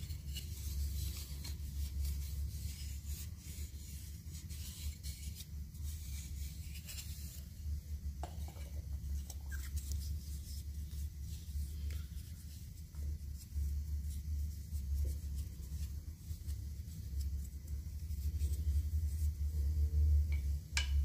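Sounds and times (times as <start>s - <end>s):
hands rubbing wooden spoons: 0.0s - 21.0s
steady low hum: 0.0s - 21.0s.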